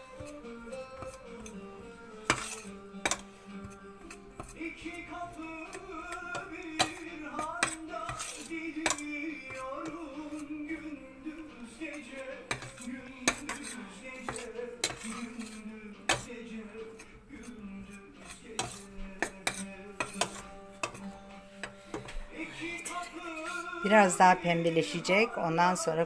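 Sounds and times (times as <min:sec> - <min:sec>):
spoon scraping a pan: 0:00.0 - 0:26.0.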